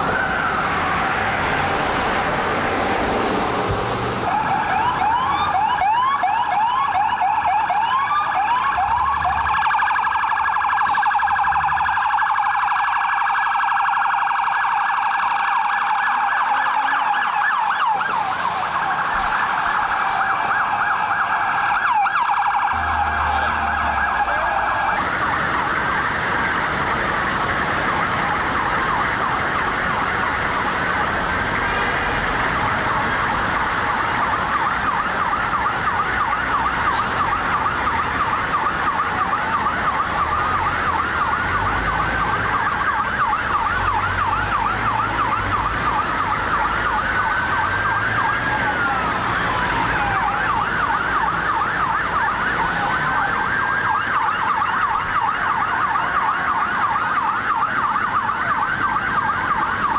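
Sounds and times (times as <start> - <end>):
wailing sirens: 0.0 - 59.9
yelping siren: 4.2 - 59.9.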